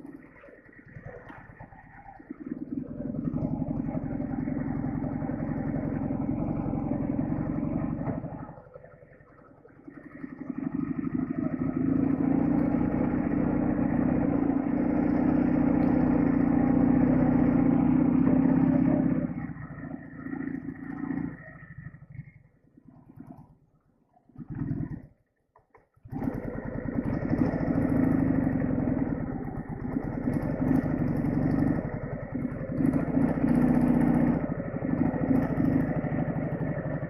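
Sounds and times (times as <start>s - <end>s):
motorcycle engine under load: 0.0s - 37.0s.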